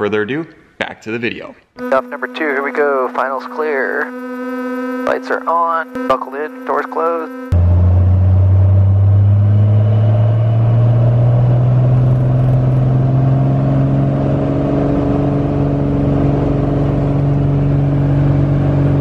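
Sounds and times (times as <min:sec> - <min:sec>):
plane engine and propeller drone: 0:01.8 - 0:19.0.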